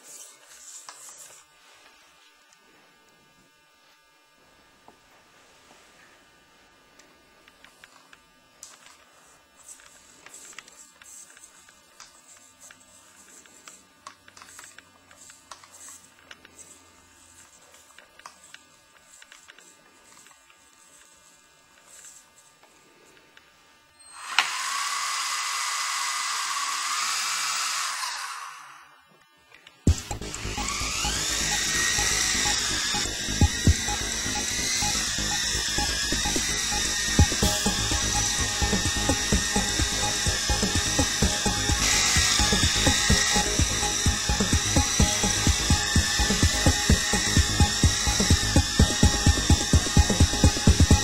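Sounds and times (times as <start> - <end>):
toy helicopter motor whine: 0.0 - 1.5, 7.7 - 23.2, 23.9 - 51.0.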